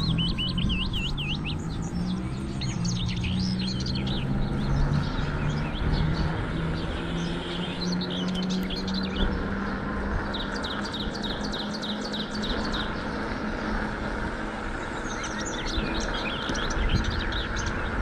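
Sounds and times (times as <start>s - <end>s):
bicycle tyres rolling hum: 0.0s - 18.0s
birds chirping and twittering: 0.0s - 18.0s.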